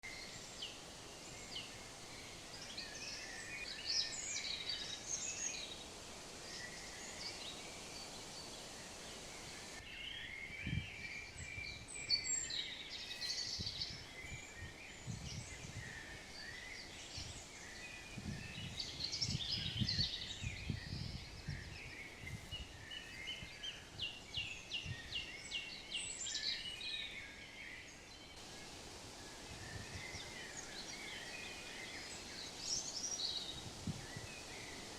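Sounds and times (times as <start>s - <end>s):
faint background hiss: 0.0s - 34.9s
songbirds chirping and singing: 0.0s - 34.9s.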